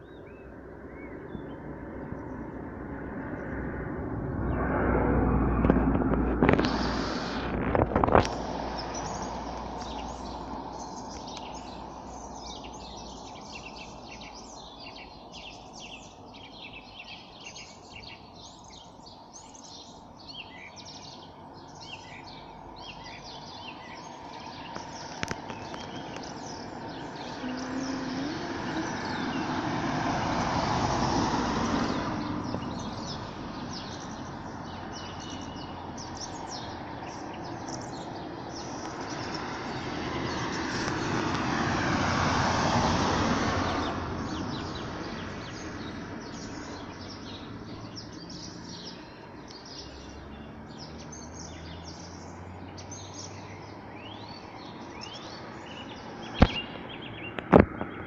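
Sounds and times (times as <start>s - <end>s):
small birds chirping: 0.0s - 2.6s, 8.0s - 42.2s, 43.6s - 58.0s
cars passing: 0.0s - 58.0s.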